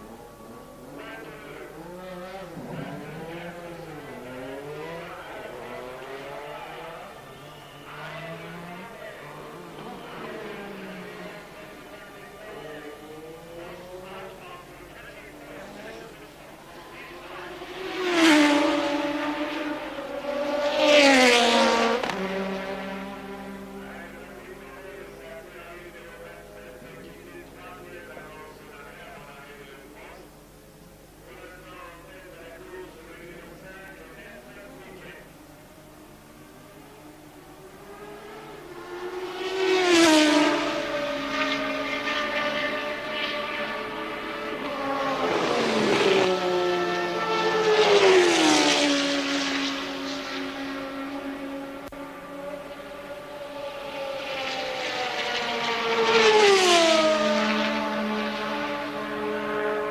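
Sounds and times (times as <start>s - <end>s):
racing cars passing: 0.0s - 59.9s.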